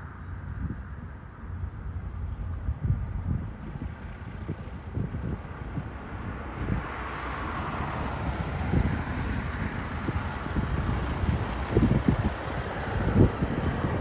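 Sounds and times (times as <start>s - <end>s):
road vehicle approaching: 0.0s - 14.0s
wind buffeting microphone: 0.0s - 14.0s.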